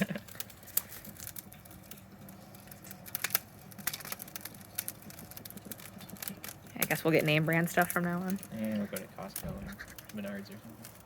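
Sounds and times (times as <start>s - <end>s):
charcoal crackling and popping: 0.0s - 11.0s.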